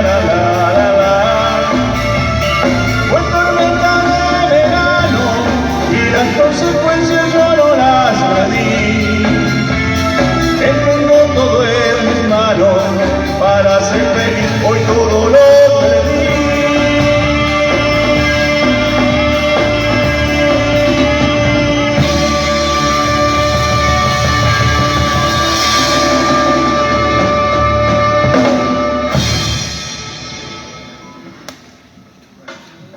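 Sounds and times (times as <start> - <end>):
live band playing with vocals: 0.0 - 32.7.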